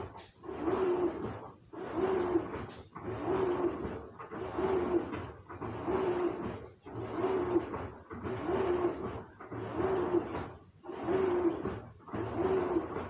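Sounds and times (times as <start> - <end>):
low motor hum: 0.0 - 13.0
washing machine sloshing water: 0.0 - 13.0.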